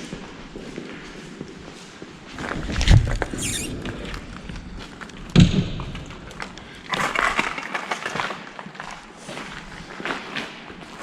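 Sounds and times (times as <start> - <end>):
footsteps and scuffing: 0.0 - 11.0
rustling and scraping: 0.6 - 11.0.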